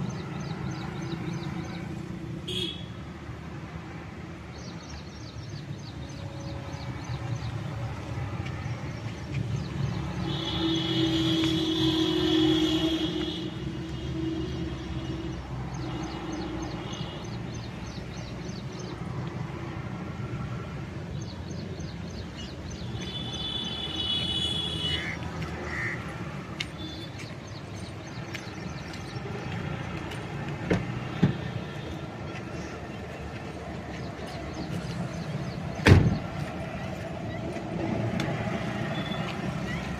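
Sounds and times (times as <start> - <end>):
passing traffic rumble: 0.0 - 39.9.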